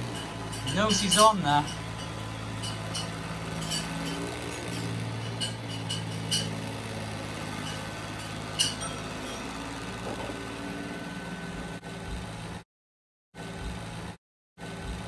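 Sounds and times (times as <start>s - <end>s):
robot vacuum humming: 0.0s - 12.6s.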